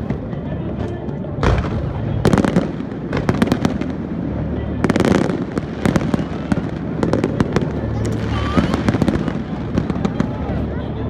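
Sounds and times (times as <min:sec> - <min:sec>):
deep firework boom: 0:01.4 - 0:10.6.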